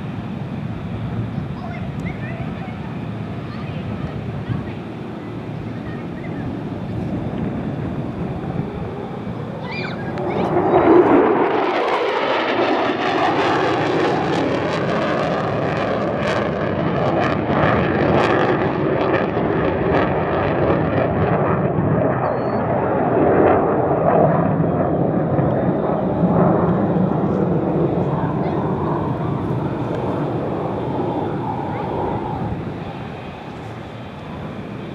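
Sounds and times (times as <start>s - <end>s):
jet engine roar in flight: 0.0s - 34.9s.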